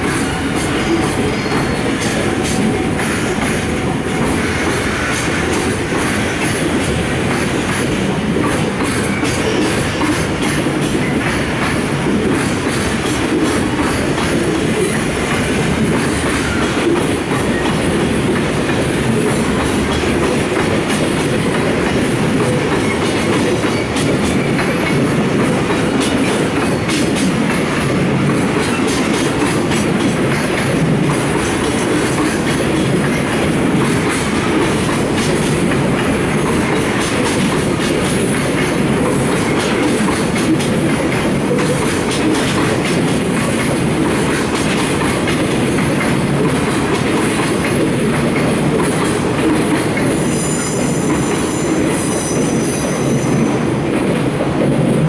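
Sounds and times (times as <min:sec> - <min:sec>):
clickety-clack over rail joints: 0:00.0 - 0:55.0
train wheels rumbling: 0:00.0 - 0:55.0.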